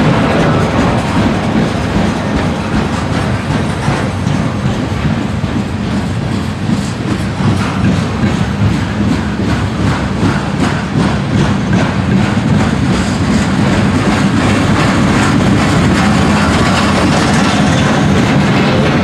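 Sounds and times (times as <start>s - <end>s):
steel wheels rumbling on rail: 0.0s - 19.0s
wheels clicking over rail joints: 0.0s - 19.0s.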